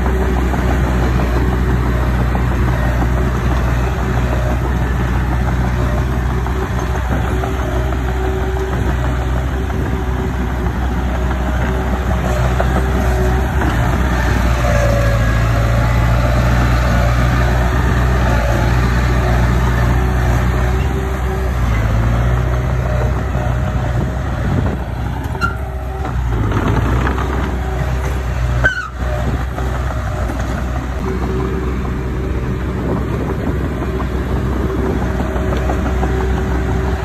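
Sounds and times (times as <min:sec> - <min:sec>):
heavy machinery diesel engine: 0:00.0 - 0:37.0.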